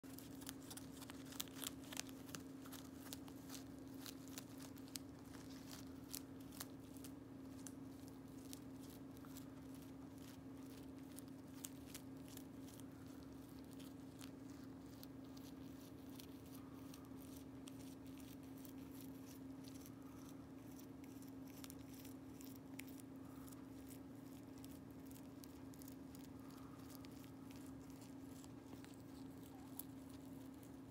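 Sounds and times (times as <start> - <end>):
rabbit chewing leaves: 0.0 - 30.9
steady low hum: 0.0 - 30.9.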